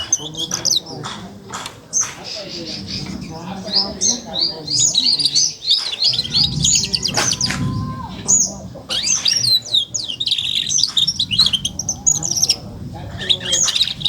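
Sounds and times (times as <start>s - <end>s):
canary twittering: 0.0s - 14.0s.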